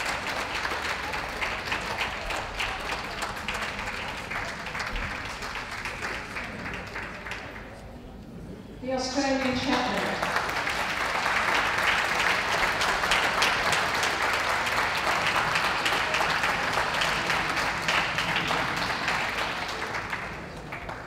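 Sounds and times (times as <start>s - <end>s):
audience applauding: 0.0s - 7.9s, 9.2s - 21.0s.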